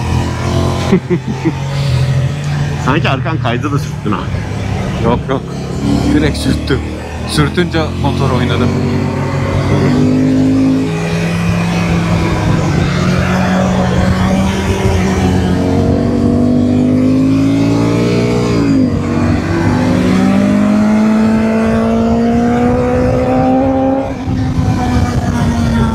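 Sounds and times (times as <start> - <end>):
motorcycle engine accelerating: 0.0 - 25.9.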